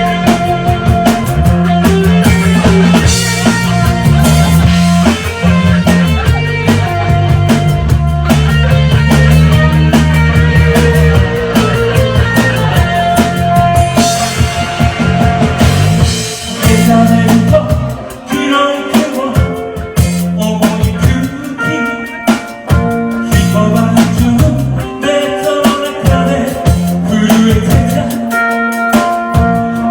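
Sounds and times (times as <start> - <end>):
rock band playing: 0.0 - 29.9.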